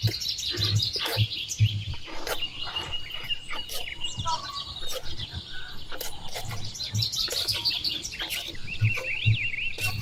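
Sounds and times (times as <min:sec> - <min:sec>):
soft low thumps: 0:00.0 - 0:07.3, 0:08.5 - 0:10.0
birds chirping and twittering: 0:00.0 - 0:10.0.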